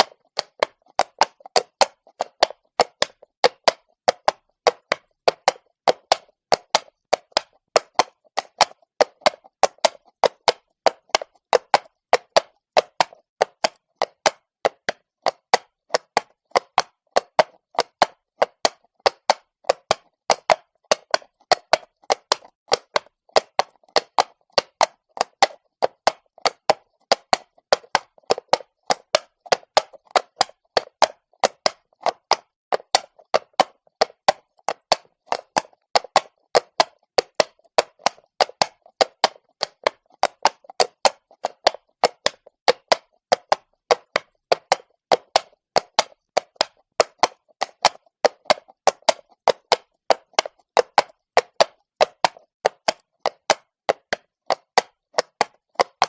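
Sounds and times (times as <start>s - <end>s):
horse hooves clopping on stone: 0.0s - 56.0s.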